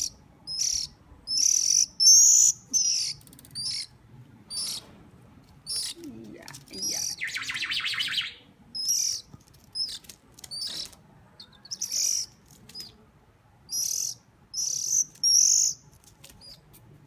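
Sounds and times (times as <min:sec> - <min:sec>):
high bird chirps: 0:00.0 - 0:04.9, 0:05.6 - 0:06.1, 0:06.7 - 0:13.0, 0:13.7 - 0:15.8.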